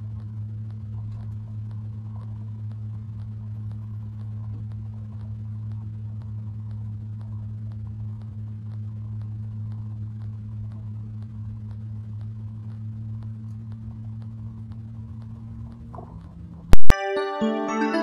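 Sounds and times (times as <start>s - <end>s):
faint regular ticks: 0.0s - 16.9s
vehicle driving hum: 0.0s - 16.9s.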